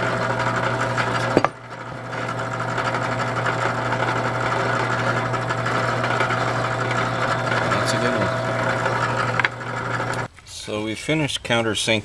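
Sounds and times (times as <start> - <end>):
drill press motor hum: 0.0 - 10.3.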